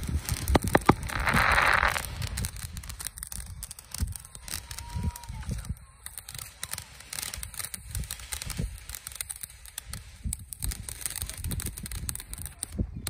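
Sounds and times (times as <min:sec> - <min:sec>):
fountain firework hissing and crackling: 0:00.0 - 0:13.0.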